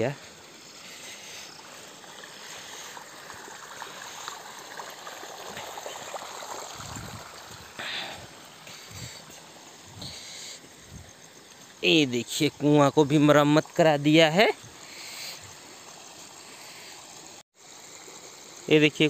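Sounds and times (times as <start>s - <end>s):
trickling water: 0.0s - 19.0s.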